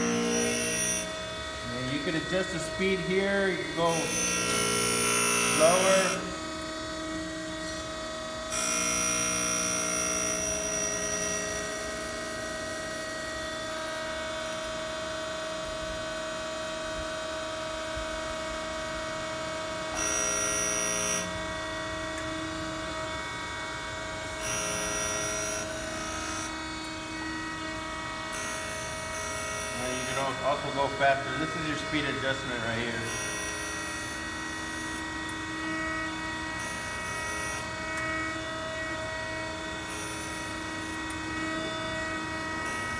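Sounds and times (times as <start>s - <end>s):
grinder motor hum: 0.0s - 42.9s.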